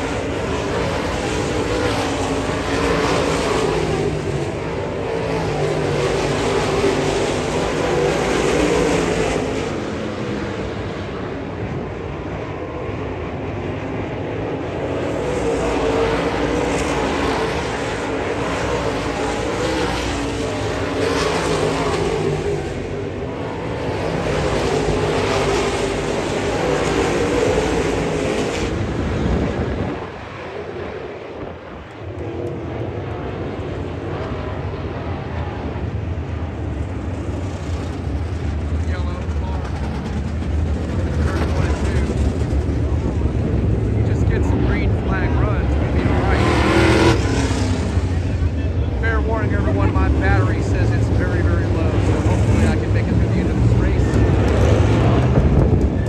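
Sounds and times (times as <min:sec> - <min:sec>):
race car engines running: 0:00.0 - 0:56.0.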